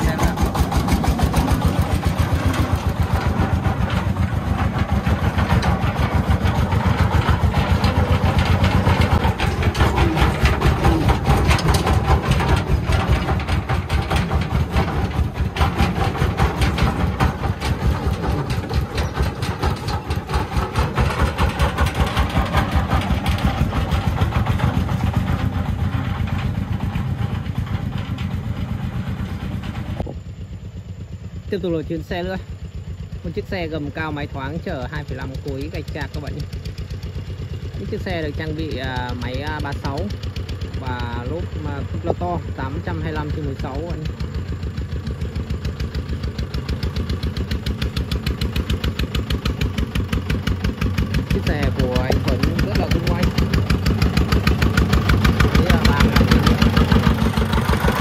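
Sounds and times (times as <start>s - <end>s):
diesel engine running hard: 0.0s - 58.0s.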